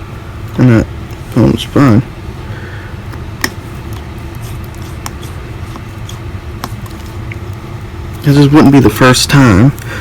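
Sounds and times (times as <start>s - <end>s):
background hum: 0.0s - 10.0s.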